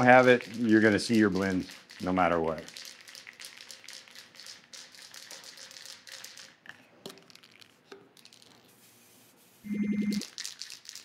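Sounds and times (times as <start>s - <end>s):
aerosol can ball rattling: 0.0s - 8.9s, 10.1s - 11.0s.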